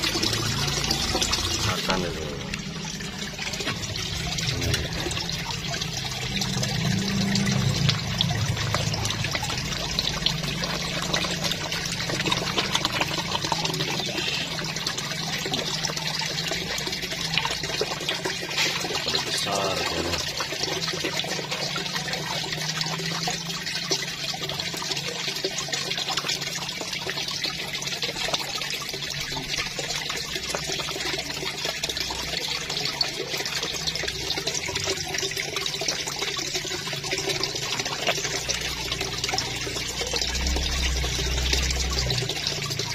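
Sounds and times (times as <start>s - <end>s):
fish splashing at water surface: 0.0s - 42.9s.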